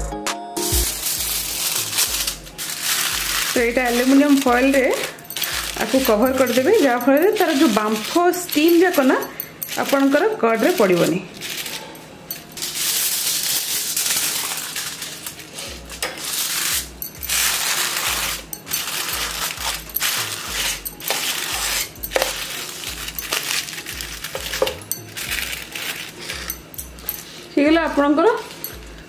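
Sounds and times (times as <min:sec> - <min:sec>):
aluminium foil crinkling: 0:00.6 - 0:29.0.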